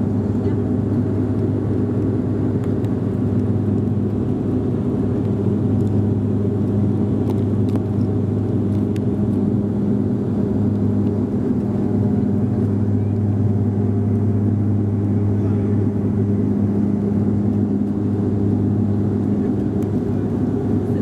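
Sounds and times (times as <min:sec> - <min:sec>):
airplane cabin propeller hum: 0:00.0 - 0:21.0.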